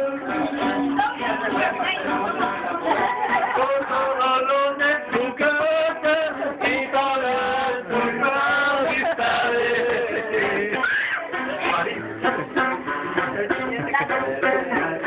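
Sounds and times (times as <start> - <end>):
acoustic guitar: 0.0 - 15.0
people singing together: 0.0 - 15.0.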